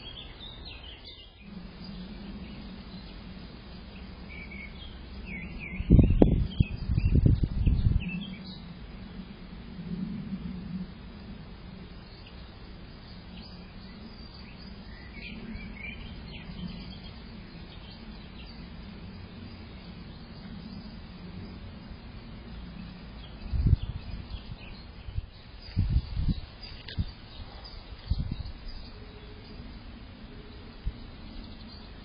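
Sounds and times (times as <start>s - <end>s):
low background hum: 0.0s - 32.0s
small birds chirping faintly: 0.0s - 32.0s.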